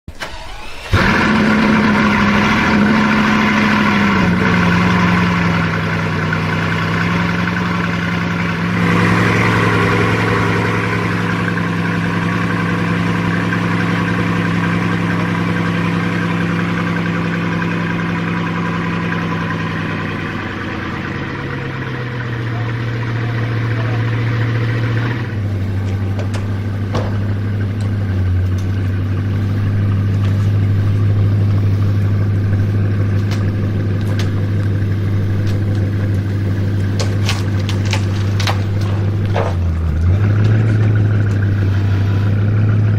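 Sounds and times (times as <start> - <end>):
car engine starting and idling: 0.0 - 42.9.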